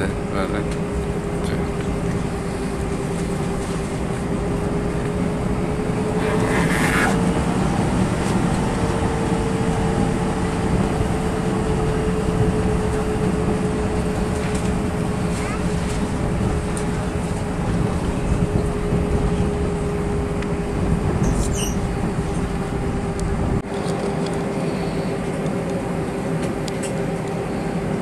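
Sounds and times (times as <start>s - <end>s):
jet engine hum: 0.0s - 28.0s
wheels rumbling on runway: 0.0s - 28.0s.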